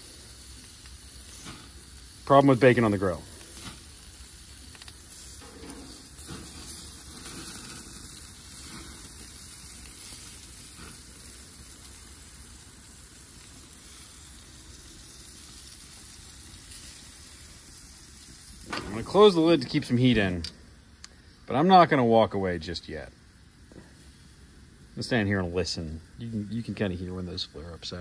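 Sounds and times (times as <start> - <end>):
meat sizzling on a grill: 0.0 - 28.0.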